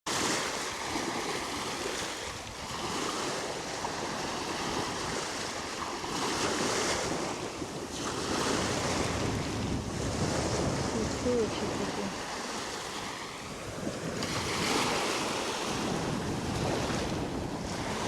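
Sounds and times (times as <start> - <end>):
sea waves washing onto shore: 0.1 - 18.0
wind buffeting microphone: 1.0 - 18.0.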